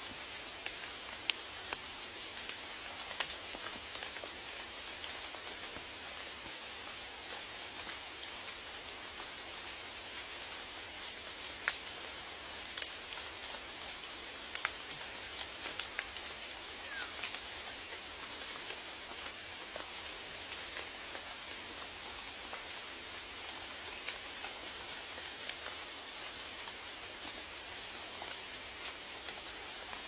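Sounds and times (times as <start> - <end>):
raindrops ticking on a surface: 0.0 - 30.0
steady rain: 0.0 - 30.0.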